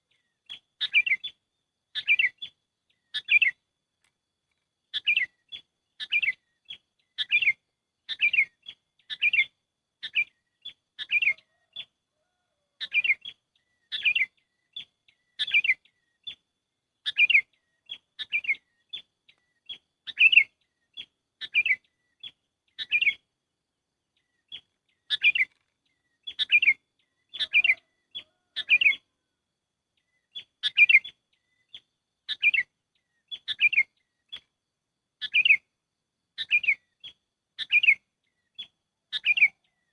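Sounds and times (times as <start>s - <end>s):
bird chirps: 0.0s - 23.3s, 24.0s - 29.3s, 29.9s - 34.6s, 35.2s - 39.9s.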